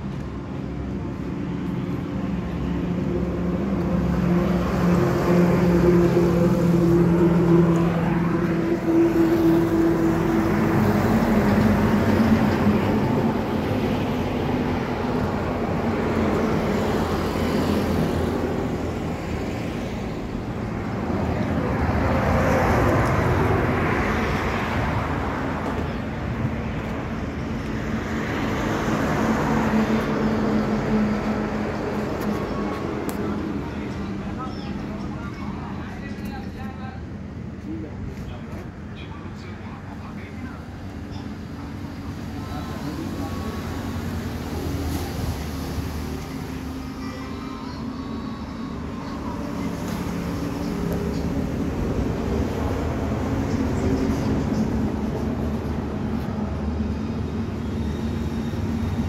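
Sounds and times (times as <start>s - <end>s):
vehicle engine humming: 0.0s - 59.0s
vehicles passing by: 0.0s - 59.0s.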